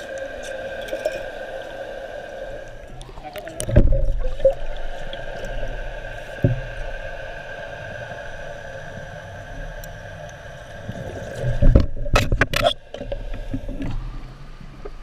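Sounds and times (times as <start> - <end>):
muffled underwater hum: 0.0 - 15.0.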